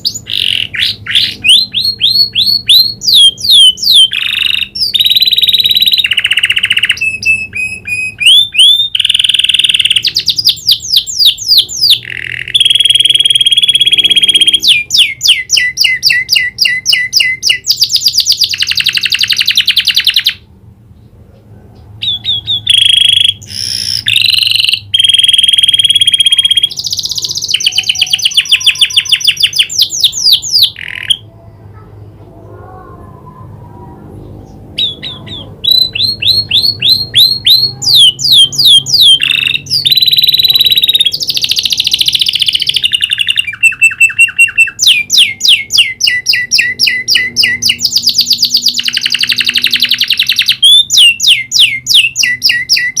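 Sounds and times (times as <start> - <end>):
canary singing trills: 0.0 - 20.5, 22.0 - 31.8, 34.2 - 53.0.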